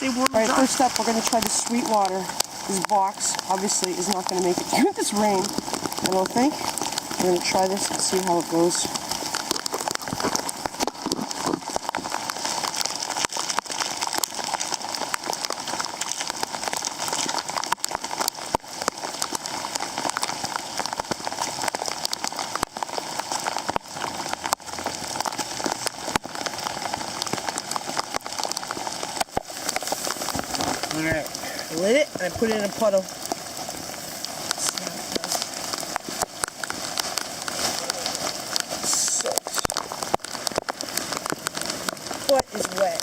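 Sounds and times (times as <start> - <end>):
pouring rain: 0.0 - 43.0
raindrops ticking on surface: 0.0 - 43.0.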